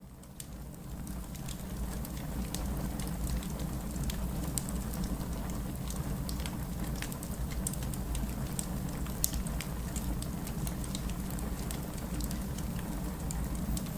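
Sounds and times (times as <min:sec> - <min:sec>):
fire crackling: 0:00.1 - 0:13.9
fire popping and snapping: 0:00.2 - 0:13.9.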